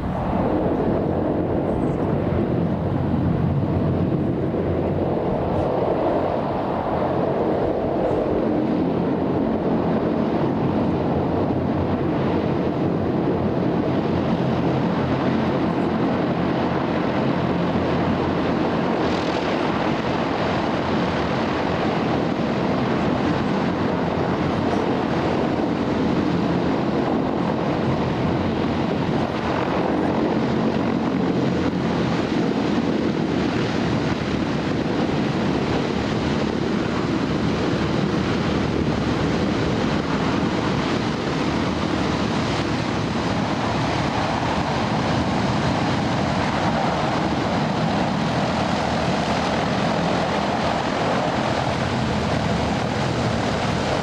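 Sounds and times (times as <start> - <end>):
hovercraft running at speed: 0.0 - 54.0.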